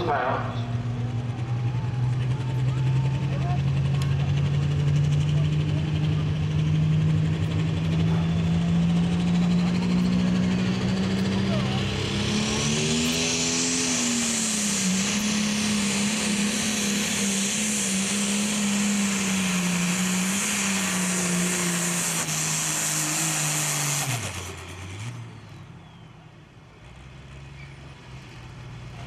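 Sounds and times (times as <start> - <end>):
tractor diesel engine at full throttle: 0.0 - 29.0.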